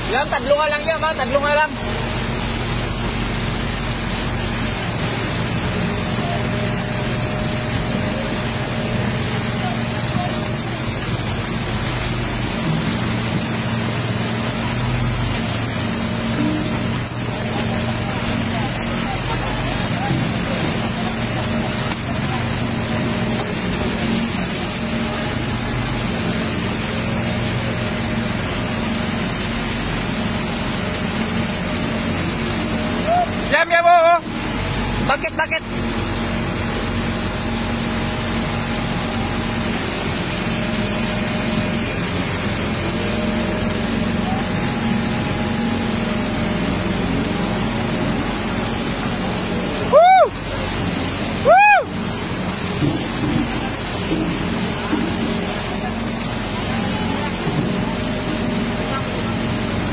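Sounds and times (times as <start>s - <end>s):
excavator diesel engine running: 0.0s - 59.9s
floodwater rushing: 0.0s - 59.9s.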